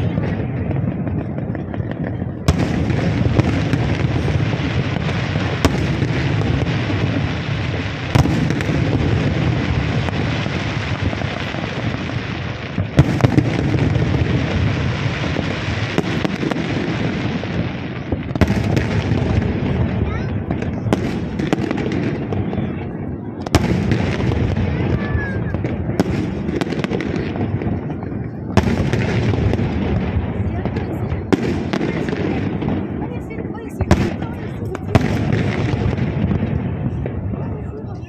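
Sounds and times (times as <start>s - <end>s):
sharp loud firework bangs: 0.0s - 37.9s
fireworks bursts and crackle: 0.0s - 38.0s.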